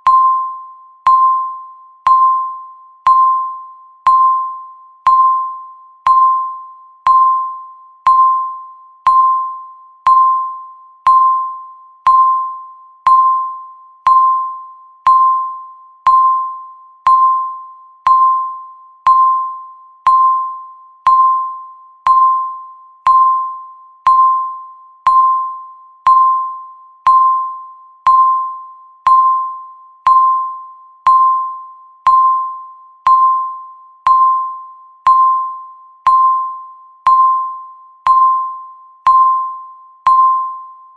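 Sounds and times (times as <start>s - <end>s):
countdown timer beeping: 0.0s - 40.8s.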